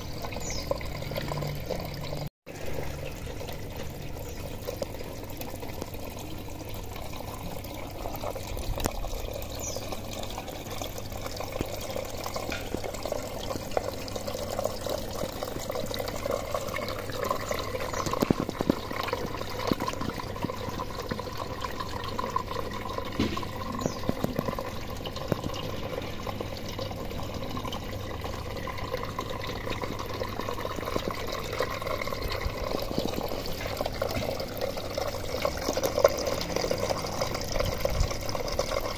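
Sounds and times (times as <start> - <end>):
water pouring into a tank: 0.0 - 38.9.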